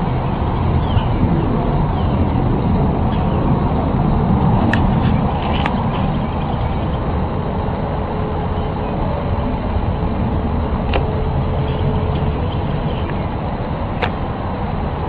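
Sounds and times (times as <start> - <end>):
faint steady hum: 0.0 - 15.0
steady low rumble: 0.0 - 15.0.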